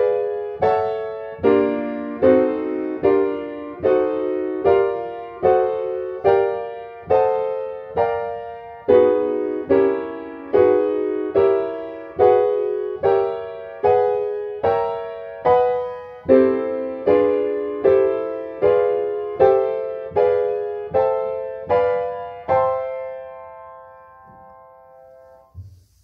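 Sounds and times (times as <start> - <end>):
piano playing chords: 0.0 - 25.6.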